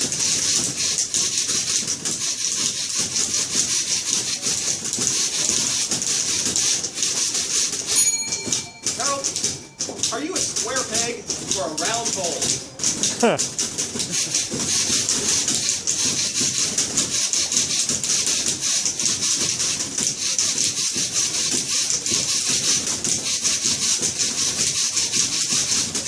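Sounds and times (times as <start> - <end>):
typewriter keys clattering: 0.0 - 26.0.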